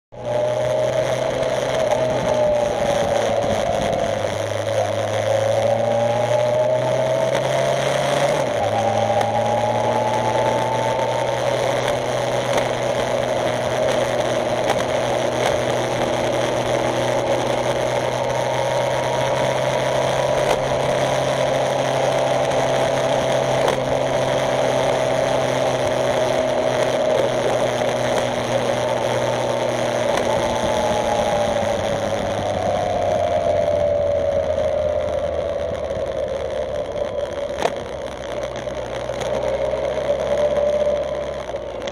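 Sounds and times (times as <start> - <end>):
motorcycle engine running: 0.1 - 41.9.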